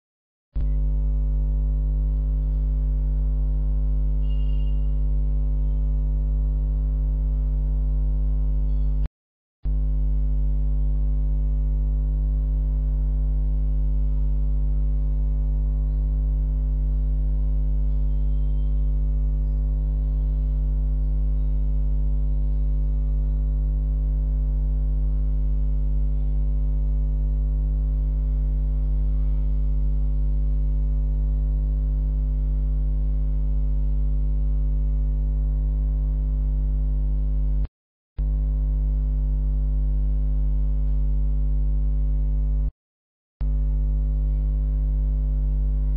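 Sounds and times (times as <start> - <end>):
electrical mains hum: 0.6 - 9.1, 9.7 - 41.9.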